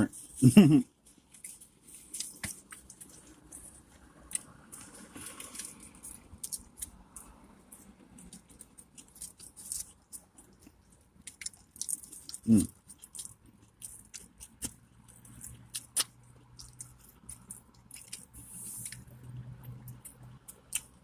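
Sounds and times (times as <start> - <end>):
burger wrapper crinkling: 1.1 - 19.0.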